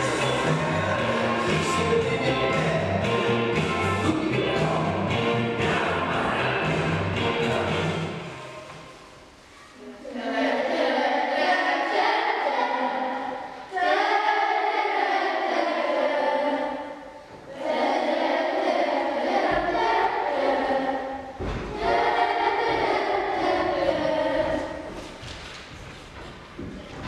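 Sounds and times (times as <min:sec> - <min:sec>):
children singing as a choir: 0:00.0 - 0:06.7, 0:07.4 - 0:25.2.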